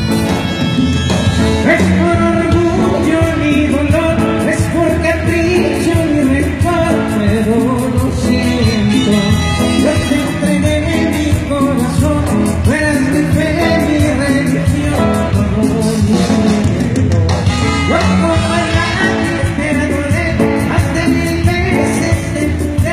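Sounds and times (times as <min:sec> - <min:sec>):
live band with singer: 0:00.0 - 0:22.9.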